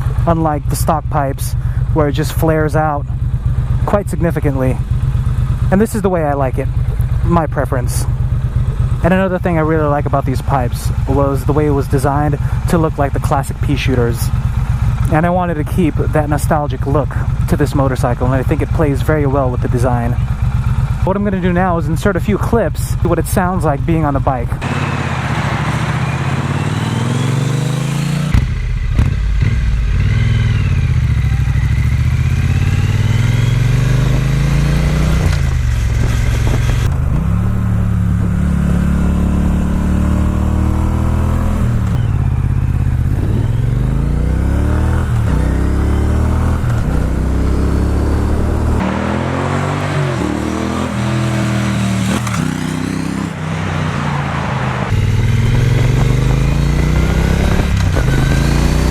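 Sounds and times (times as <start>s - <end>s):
motorcycle engine accelerating: 0.0s - 58.9s.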